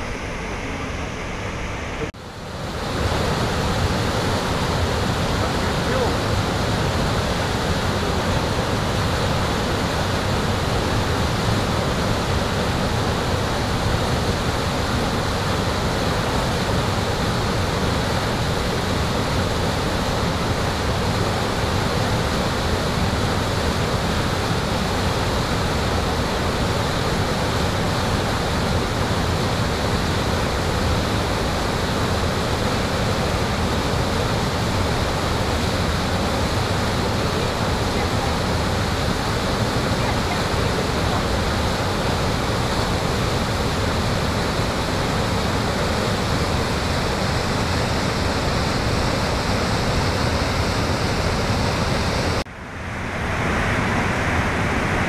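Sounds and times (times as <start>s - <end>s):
water rushing over rock: 2.4s - 52.4s.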